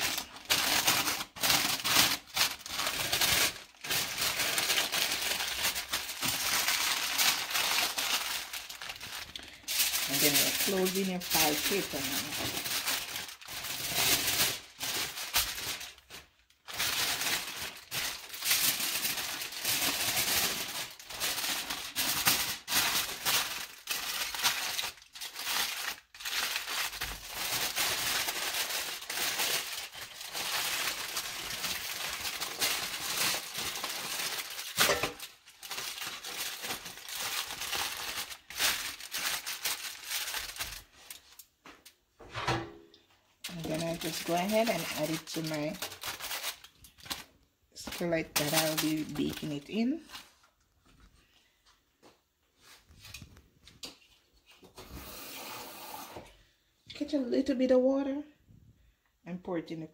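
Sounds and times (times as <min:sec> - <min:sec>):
aluminium foil crinkling: 0:00.0 - 0:42.0, 0:43.4 - 0:51.6, 0:52.6 - 0:54.7.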